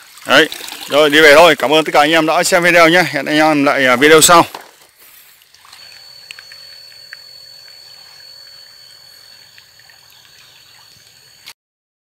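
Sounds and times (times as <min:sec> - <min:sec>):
faint trickling water: 0:00.0 - 0:11.5
steady high-pitched tone: 0:01.2 - 0:11.6.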